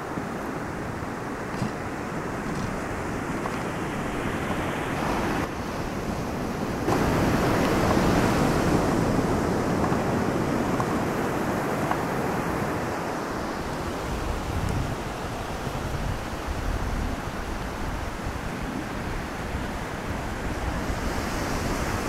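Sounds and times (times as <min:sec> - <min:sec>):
ocean surf washing: 0:00.0 - 0:22.0
wind rumbling on microphone: 0:00.0 - 0:22.0.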